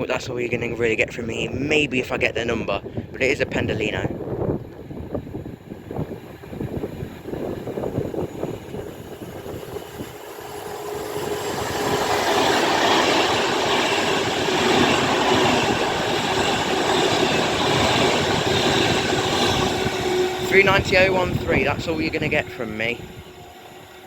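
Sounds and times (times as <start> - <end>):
electric train passing: 4.1 - 24.0.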